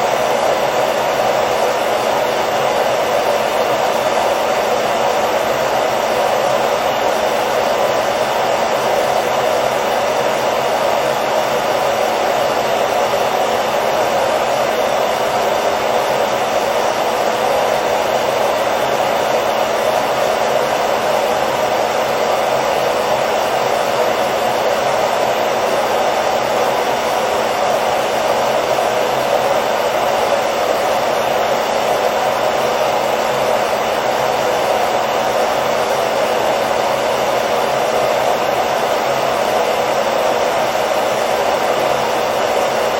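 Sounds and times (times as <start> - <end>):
hair dryer blowing air: 0.0 - 42.9.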